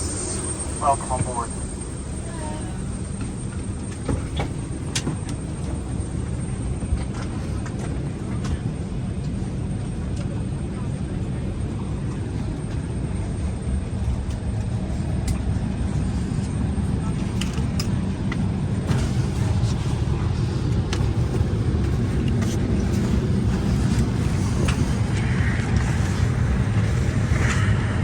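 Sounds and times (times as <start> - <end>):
aircraft cabin rumble: 0.0 - 28.0
faint passenger chatter: 0.0 - 28.0.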